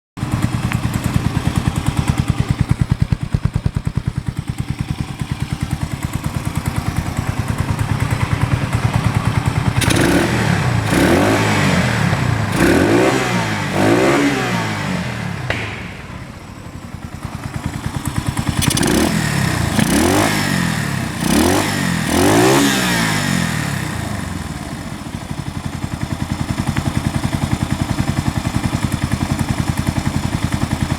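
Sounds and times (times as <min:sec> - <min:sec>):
motorcycle engine idling and revving: 0:00.2 - 0:30.9.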